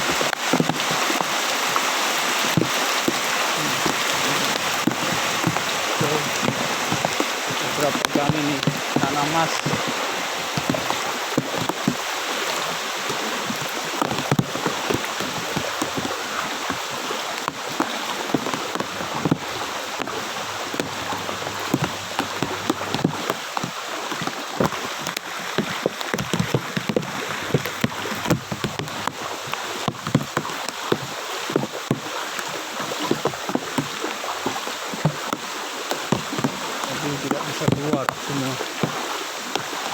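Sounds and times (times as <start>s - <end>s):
floodwater sloshing and splashing: 0.0s - 39.9s.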